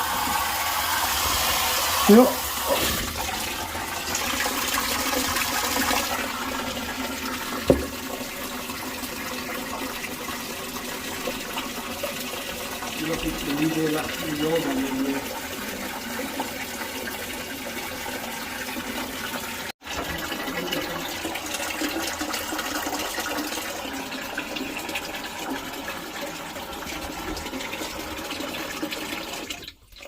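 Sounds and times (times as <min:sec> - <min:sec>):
water rushing into tank: 0:00.0 - 0:30.0.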